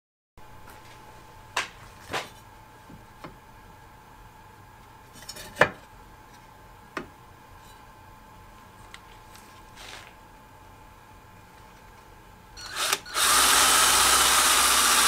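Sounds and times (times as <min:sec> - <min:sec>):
faint steady hum: 0:00.4 - 0:15.0.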